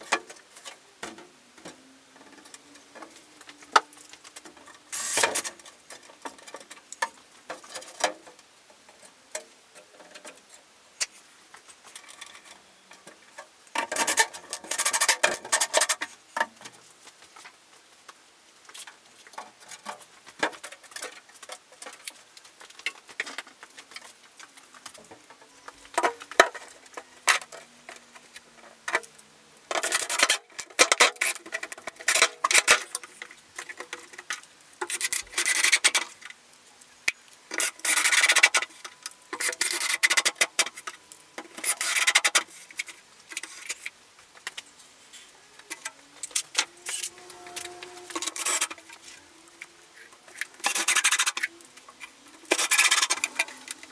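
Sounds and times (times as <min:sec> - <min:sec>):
plastic sheet and screws handled: 0:00.0 - 0:08.4, 0:09.0 - 0:17.6, 0:18.7 - 0:36.4, 0:37.5 - 0:53.9.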